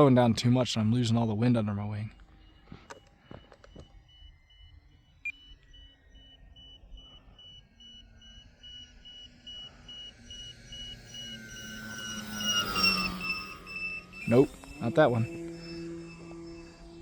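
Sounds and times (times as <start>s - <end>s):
electric motor whine: 2.2s - 17.0s
high-pitched electronic beeping: 2.3s - 17.0s.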